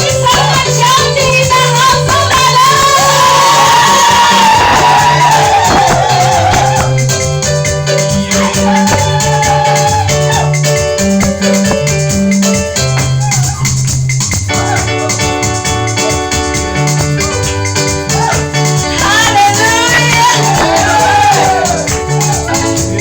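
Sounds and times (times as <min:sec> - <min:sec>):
electric keyboard organ chords: 0:00.0 - 0:23.0
shaker rhythm: 0:00.0 - 0:23.0
stepping bass line: 0:00.0 - 0:23.0.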